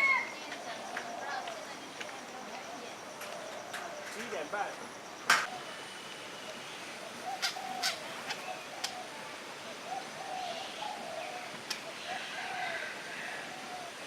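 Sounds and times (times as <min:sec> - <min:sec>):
birds cooing: 0:00.0 - 0:04.5, 0:05.4 - 0:14.0.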